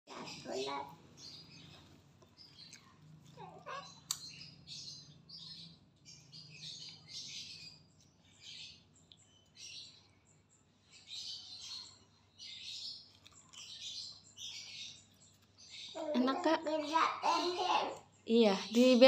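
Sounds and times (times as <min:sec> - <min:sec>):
bird chirping: 0:00.1 - 0:19.0.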